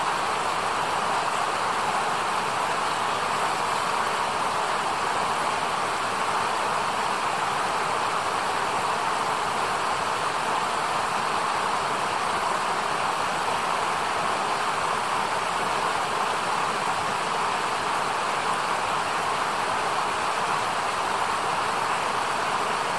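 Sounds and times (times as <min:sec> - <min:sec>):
river rushing over rocks: 0:00.0 - 0:22.9.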